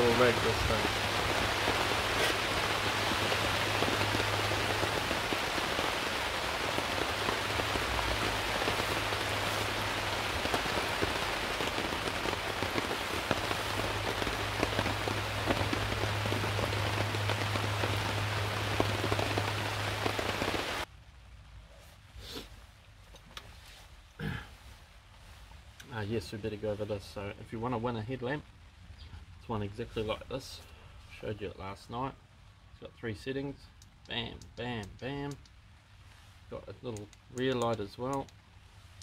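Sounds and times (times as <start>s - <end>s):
raindrops ticking close by: 0.0s - 21.5s, 25.0s - 30.5s, 31.3s - 39.0s
rain falling: 0.0s - 21.7s, 22.7s - 39.0s.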